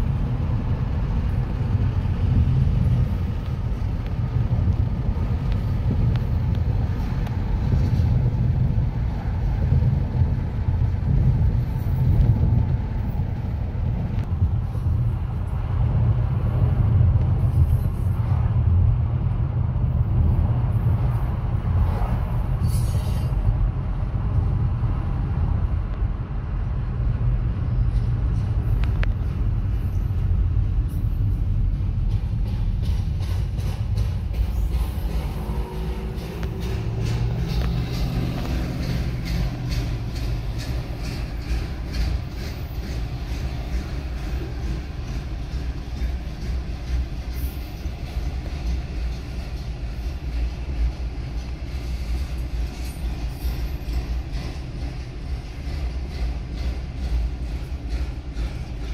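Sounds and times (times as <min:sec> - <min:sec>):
car road rumble: 0:00.0 - 0:49.9
freight train clicking past: 0:00.0 - 0:58.9.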